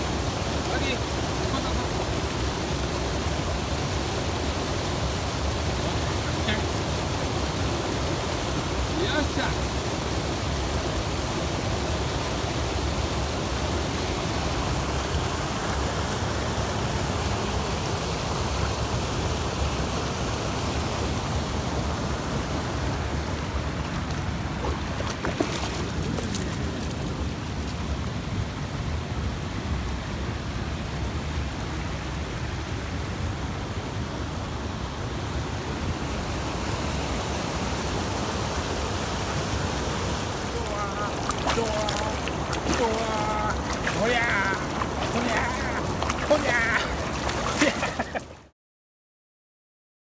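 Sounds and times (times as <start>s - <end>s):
stream rushing over rocks: 0.0s - 48.5s.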